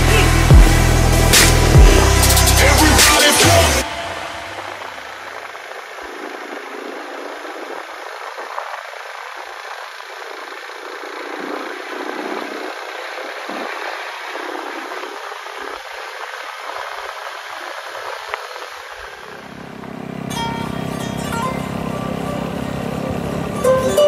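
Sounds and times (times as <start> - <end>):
motorcycle engine: 0.0 - 16.4, 18.1 - 24.0.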